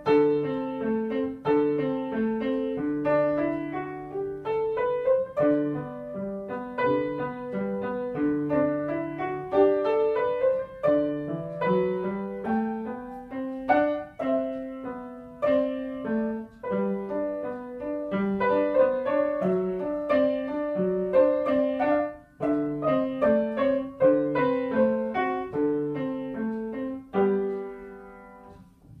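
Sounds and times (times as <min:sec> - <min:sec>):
piano melody: 0:00.0 - 0:29.0.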